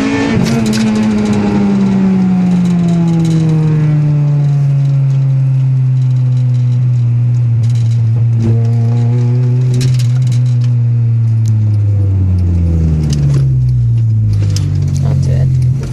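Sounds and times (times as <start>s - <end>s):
car engine misfiring: 0.0s - 15.9s.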